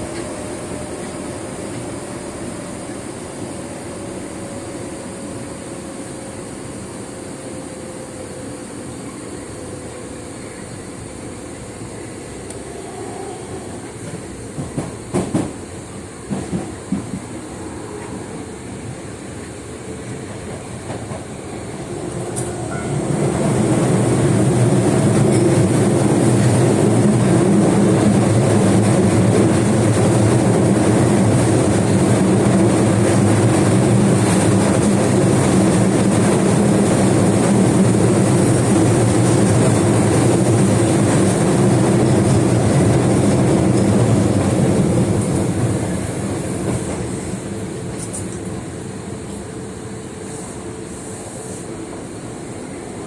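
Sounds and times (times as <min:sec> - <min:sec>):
subway train wheels rumbling: 0:00.0 - 0:53.0.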